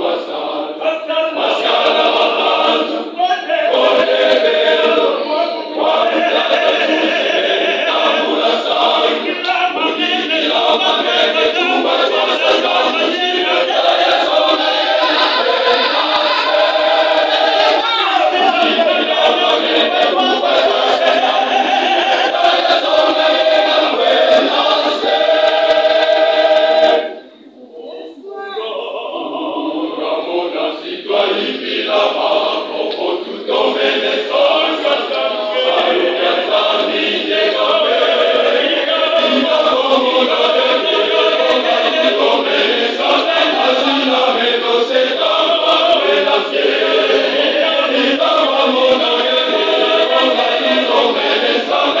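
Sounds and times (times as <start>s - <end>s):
church choir singing: 0.0s - 52.0s.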